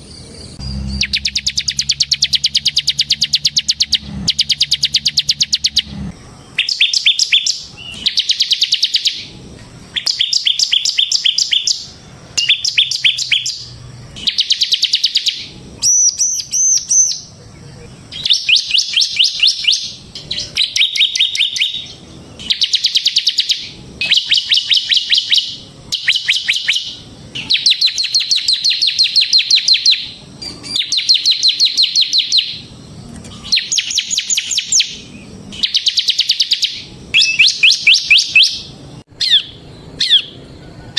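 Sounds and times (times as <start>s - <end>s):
bird singing ticking trills: 0.0s - 40.9s.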